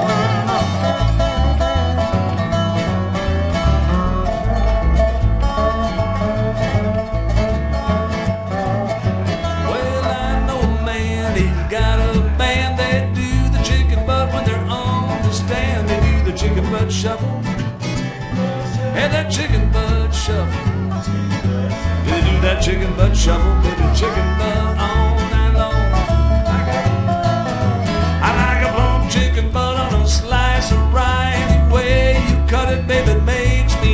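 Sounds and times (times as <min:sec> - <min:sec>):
acoustic guitar: 0:00.0 - 0:33.9
slide guitar melody: 0:00.0 - 0:33.9
upright bass: 0:00.0 - 0:33.9.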